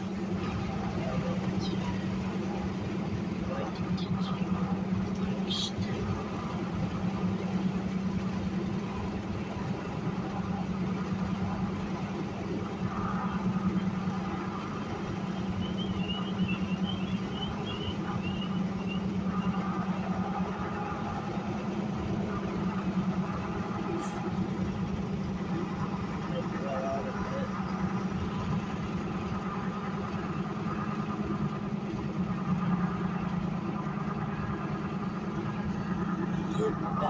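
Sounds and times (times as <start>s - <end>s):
car engine hum: 0.0s - 37.0s
road noise: 0.0s - 37.0s.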